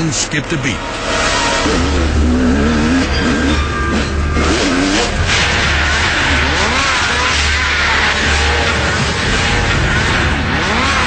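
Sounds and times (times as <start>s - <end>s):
snowmobile engine revving: 1.6s - 11.0s.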